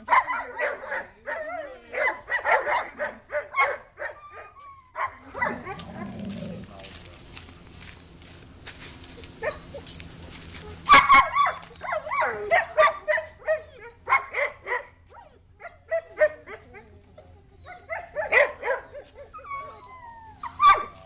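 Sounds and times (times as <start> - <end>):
dog barking and whining: 0.0 - 6.9, 9.4 - 9.9, 10.8 - 21.0.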